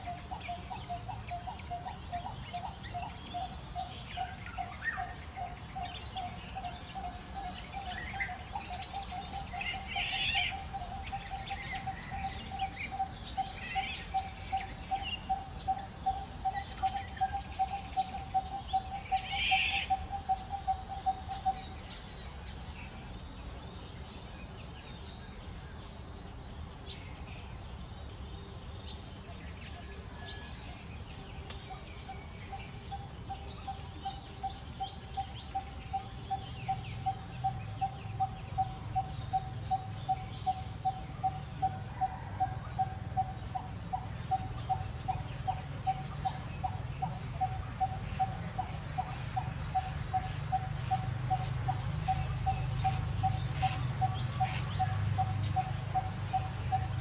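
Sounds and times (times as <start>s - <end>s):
low pulsing bird calls: 0.0s - 23.3s, 29.6s - 57.0s.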